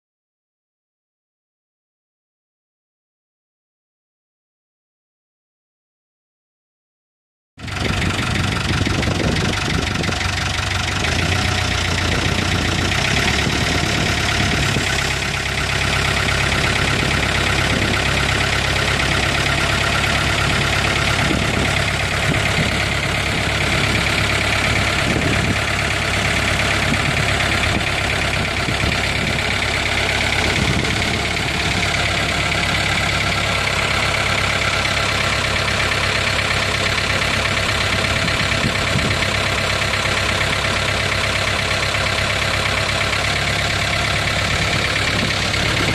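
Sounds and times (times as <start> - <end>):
tractor diesel engine idling: 7.6 - 45.9.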